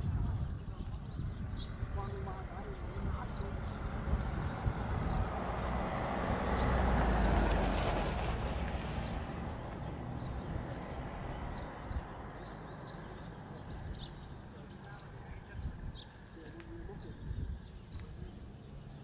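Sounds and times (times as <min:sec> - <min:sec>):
outdoor rumble: 0:00.0 - 0:19.0.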